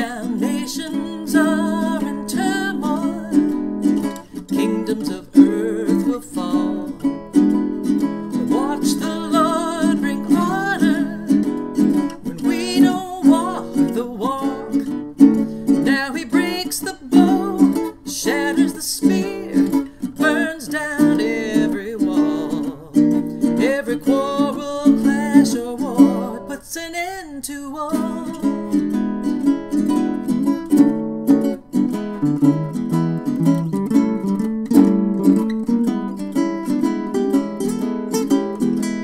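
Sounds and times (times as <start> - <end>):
ukulele blues playing: 0.0 - 39.0.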